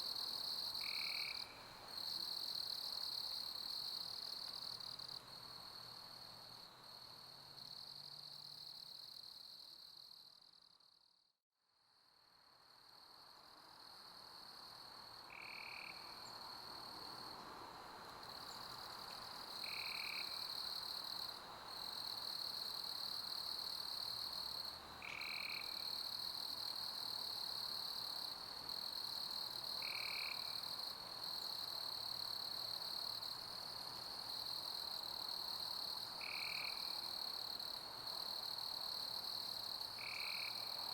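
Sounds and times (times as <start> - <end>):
crickets chirping: 0.0 - 10.9, 12.8 - 40.9.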